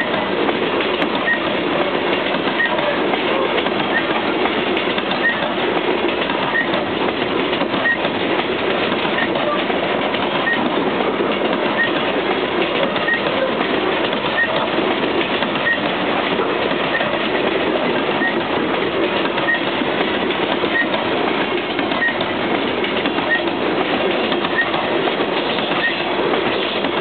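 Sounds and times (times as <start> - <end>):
steel wheels running on rail: 0.0 - 27.0.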